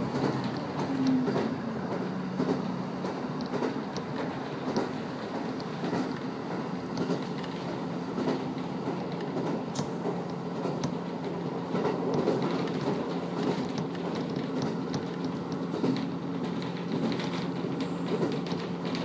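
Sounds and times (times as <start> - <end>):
clicks from the track: 0.0 - 19.0
diesel engine drone: 0.0 - 19.0
wheel and rail rumble: 0.0 - 19.0.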